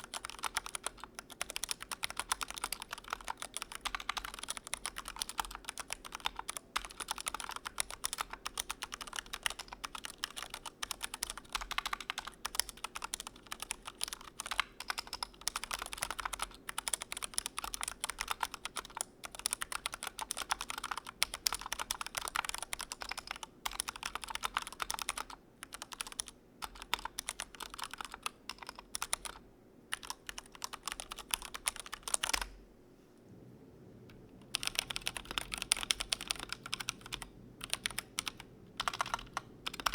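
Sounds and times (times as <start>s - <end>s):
mechanical keyboard typing: 0.0s - 32.6s, 34.4s - 39.9s.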